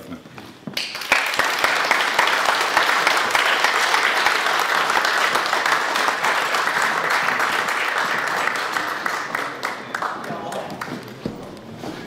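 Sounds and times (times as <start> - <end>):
audience applauding: 0.8 - 11.2.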